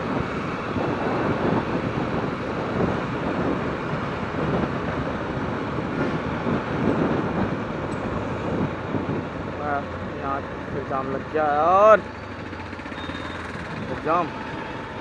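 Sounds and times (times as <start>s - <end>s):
motorcycle engine: 0.0s - 15.0s
tyre noise on road: 0.0s - 15.0s
wind rushing over microphone: 0.0s - 15.0s.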